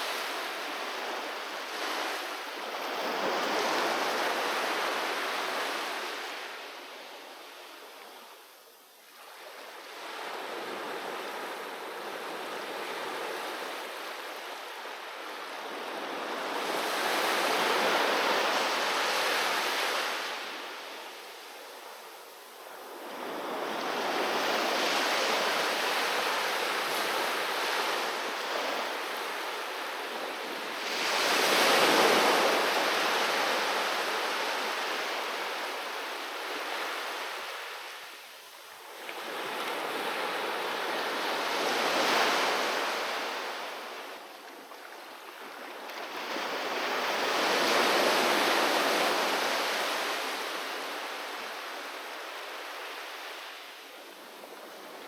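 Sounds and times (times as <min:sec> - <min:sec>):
sea waves breaking on beach: 0:00.0 - 0:06.9, 0:09.3 - 0:38.2, 0:38.8 - 0:55.0.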